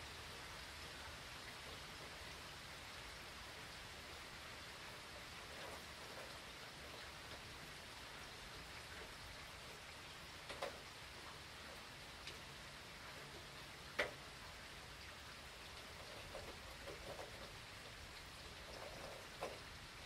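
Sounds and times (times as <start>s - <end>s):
faint steady rain: 0.0s - 20.0s
raindrops tapping: 0.0s - 20.0s.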